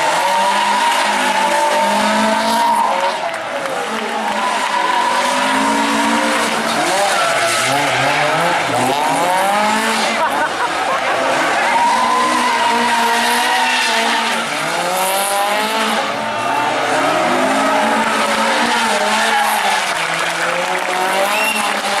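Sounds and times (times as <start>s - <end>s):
rally car engine running hard: 0.0s - 22.0s.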